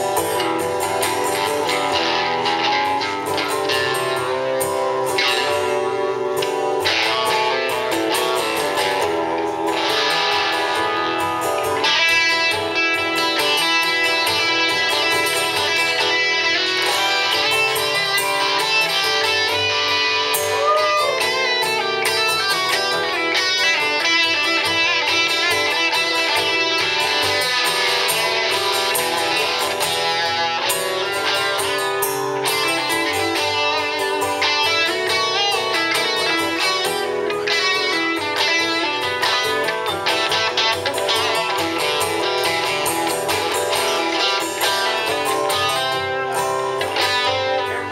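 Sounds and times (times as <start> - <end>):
electric guitar lead line: 0.0 - 47.9
strummed acoustic guitar: 0.0 - 47.9.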